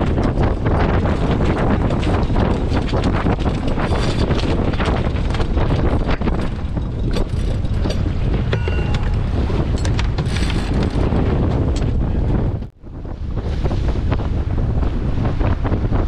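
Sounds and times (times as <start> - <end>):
choppy water slapping hull: 0.0 - 16.0
wind buffeting microphone: 0.0 - 16.0.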